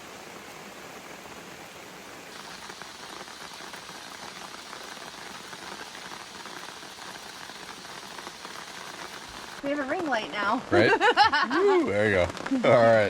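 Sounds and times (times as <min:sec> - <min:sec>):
steady rain pattering: 0:00.0 - 0:13.0.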